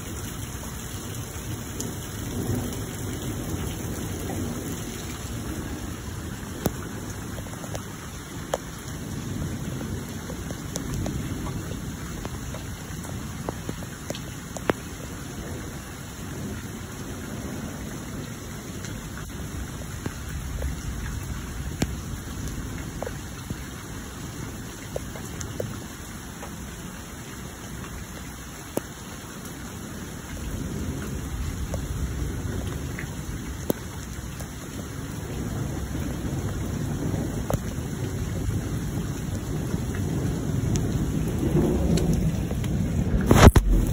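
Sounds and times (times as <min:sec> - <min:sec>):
low rolling thunder: 0:00.0 - 0:14.0, 0:14.6 - 0:23.7, 0:30.4 - 0:43.9
raindrops tapping close by: 0:00.0 - 0:43.9
steady rain: 0:00.0 - 0:43.9.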